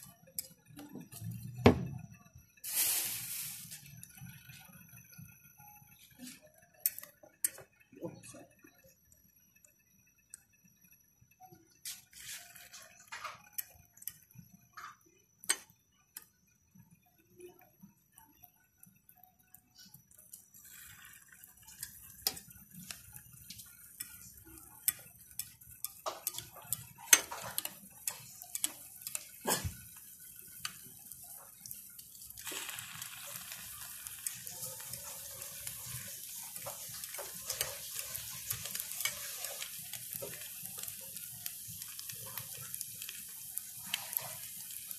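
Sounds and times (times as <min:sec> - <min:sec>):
oil sizzling: 0:00.0 - 0:07.7, 0:11.8 - 0:17.0, 0:17.9 - 0:44.9.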